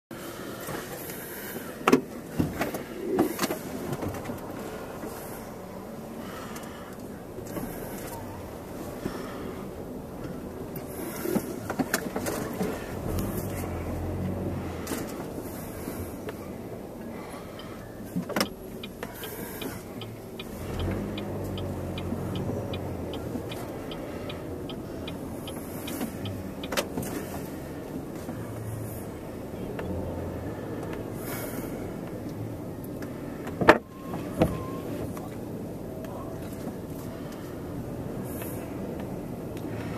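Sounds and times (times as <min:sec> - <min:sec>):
car running: 0:00.1 - 0:39.9
turn signal ticking: 0:05.9 - 0:39.9.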